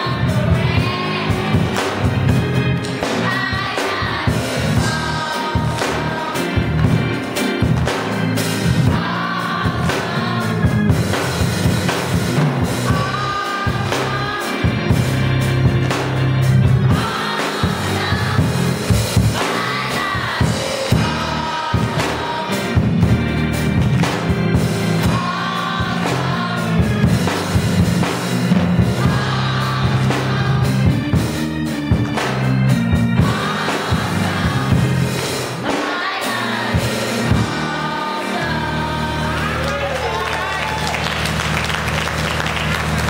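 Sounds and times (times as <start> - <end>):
children singing: 0.0 - 23.3, 24.1 - 31.7, 33.0 - 40.7
drum kit: 0.0 - 43.0.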